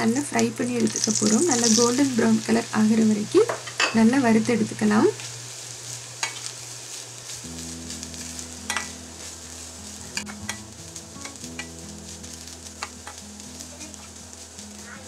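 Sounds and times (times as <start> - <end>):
soft background music: 0.0 - 5.1, 7.4 - 15.0
light sizzle: 0.0 - 15.0.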